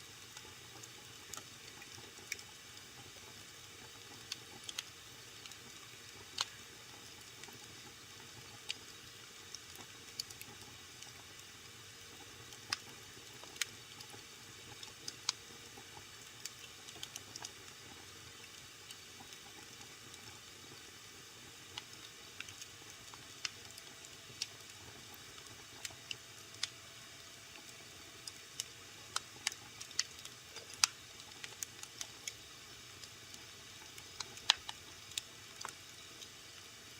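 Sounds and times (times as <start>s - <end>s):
faint steady hiss: 0.0s - 36.9s
wood fire crackling and popping: 0.3s - 11.4s, 12.2s - 26.8s, 27.5s - 36.4s.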